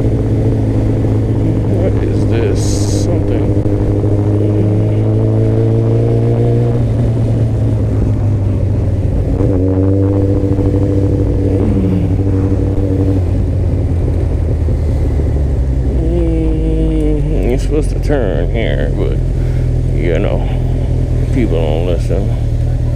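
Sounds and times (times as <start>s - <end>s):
motorcycle engine running: 0.0s - 22.9s
traffic drone: 0.0s - 22.9s.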